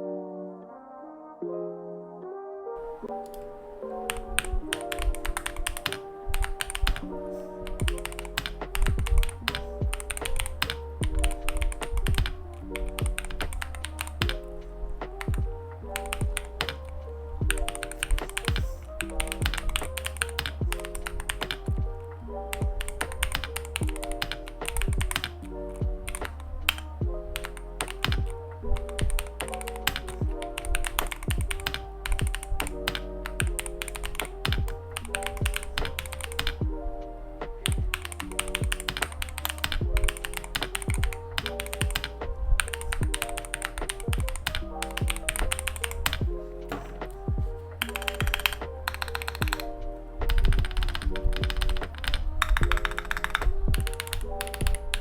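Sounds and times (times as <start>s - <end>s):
background music with bass: 2.3s - 55.0s
mechanical keyboard typing: 4.1s - 7.0s, 7.6s - 14.5s, 16.0s - 21.8s, 22.6s - 25.4s, 26.1s - 26.8s, 27.4s - 36.6s, 37.6s - 47.2s, 47.8s - 49.6s, 50.3s - 55.0s.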